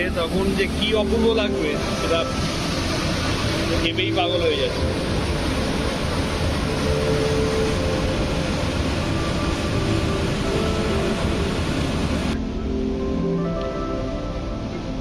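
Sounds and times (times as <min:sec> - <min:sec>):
roar of churning water: 0:00.0 - 0:13.3
soft music: 0:00.0 - 0:15.0.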